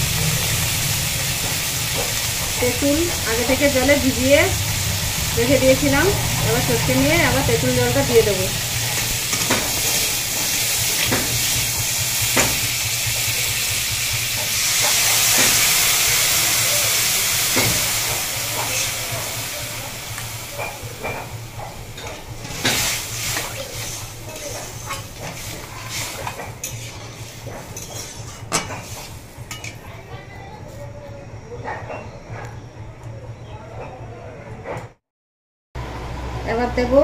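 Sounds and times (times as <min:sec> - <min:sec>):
crab sizzling in hot oil: 0:00.0 - 0:29.7.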